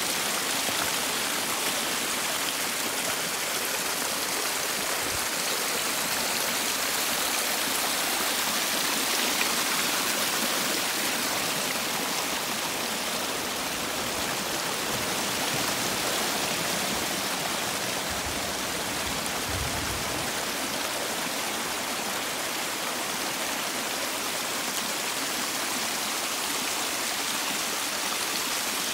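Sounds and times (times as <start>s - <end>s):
rain: 0.0s - 28.9s
water rushing over hillside: 0.0s - 28.9s.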